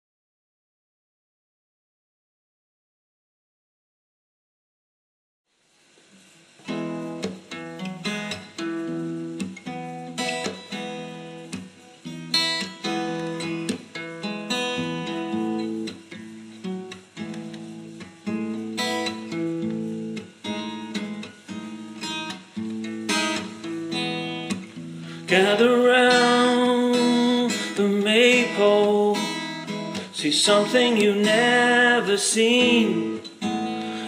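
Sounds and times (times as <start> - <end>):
acoustic guitar chords: 6.2 - 34.0.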